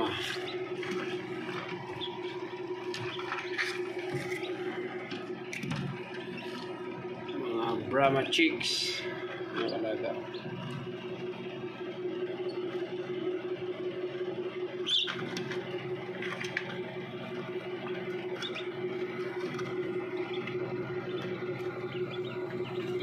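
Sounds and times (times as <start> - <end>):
chicks peeping: 0.0 - 13.0, 14.8 - 23.0
low steady hum: 0.0 - 23.0.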